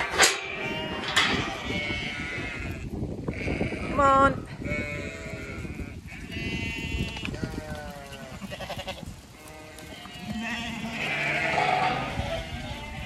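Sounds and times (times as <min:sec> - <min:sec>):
sheep bleating: 0:00.2 - 0:13.0.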